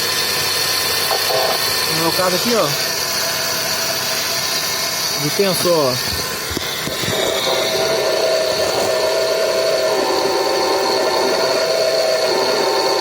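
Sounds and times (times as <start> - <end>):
belt pulley squealing whine: 0.0 - 13.0.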